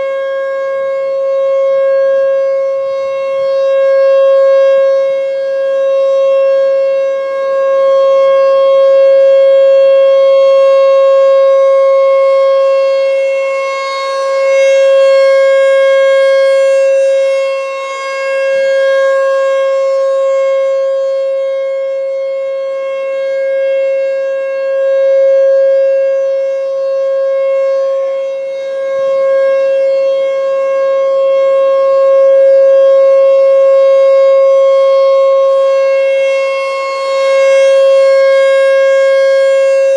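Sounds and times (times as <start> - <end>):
warning siren steady alert tone: 0.0 - 39.9.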